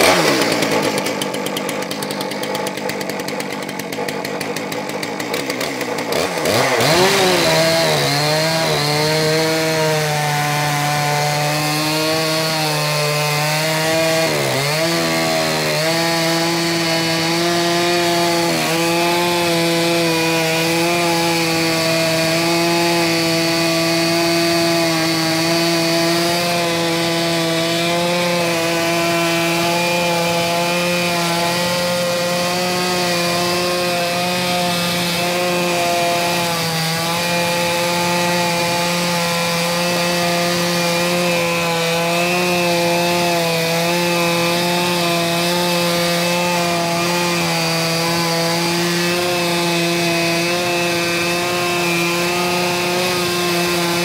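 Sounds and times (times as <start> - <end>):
chainsaw cutting through log: 0.0 - 54.0.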